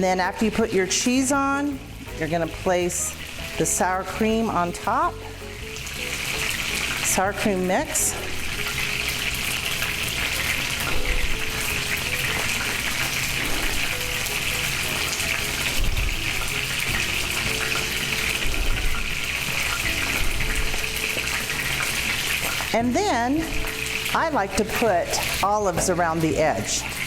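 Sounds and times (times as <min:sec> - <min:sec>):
chicken frying in grease: 0:00.0 - 0:27.0.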